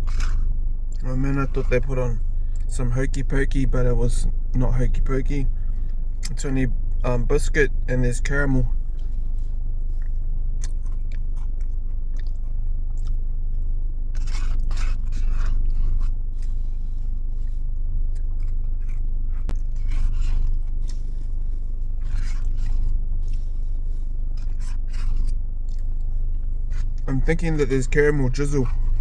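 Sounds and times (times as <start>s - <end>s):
chewing and crunching: 0.0s - 29.0s
steady low hum: 0.0s - 29.0s.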